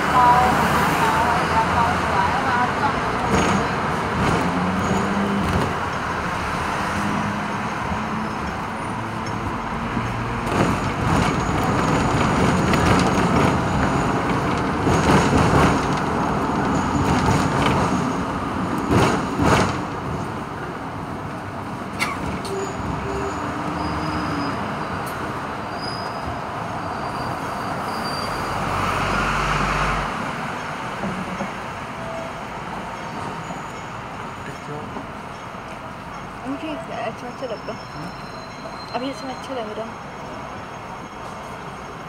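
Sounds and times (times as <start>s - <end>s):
road traffic: 0.0s - 42.0s
tram rumbling and rattling: 0.0s - 42.0s.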